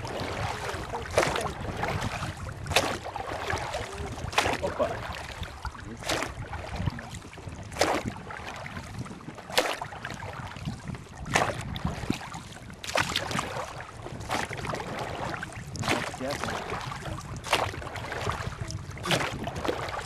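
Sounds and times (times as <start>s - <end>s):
low rushing of water and wind: 0.0s - 20.0s
oars splashing into water: 0.0s - 20.0s.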